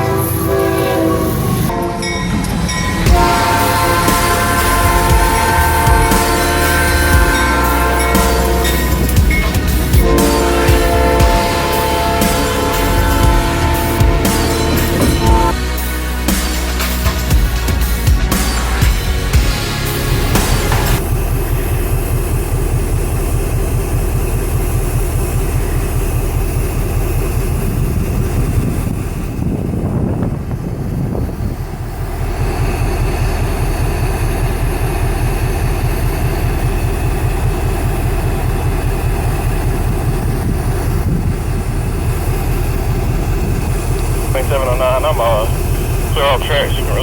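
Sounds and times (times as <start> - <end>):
diesel locomotives idling: 0.0 - 47.0.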